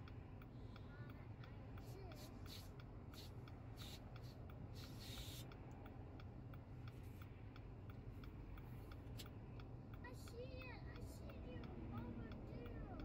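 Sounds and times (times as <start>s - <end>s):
turn signal clicking: 0.0s - 13.0s.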